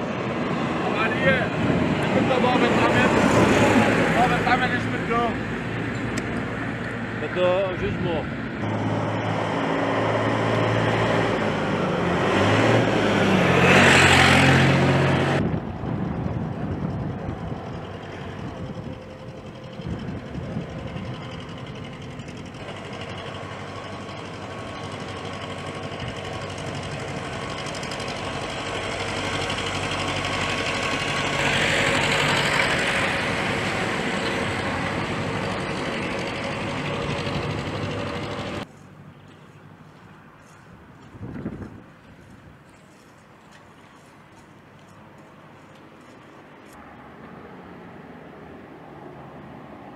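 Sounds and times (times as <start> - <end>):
heavy vehicle engines running: 0.0 - 48.0
vehicles passing loudly: 0.0 - 49.9.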